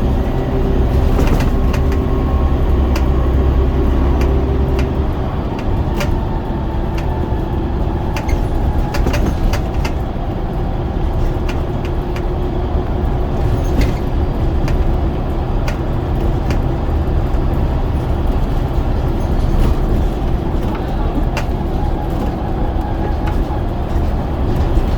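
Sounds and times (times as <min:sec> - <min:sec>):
bodywork clicks and rattles: 0:00.0 - 0:24.9
bus diesel engine running: 0:00.0 - 0:24.9.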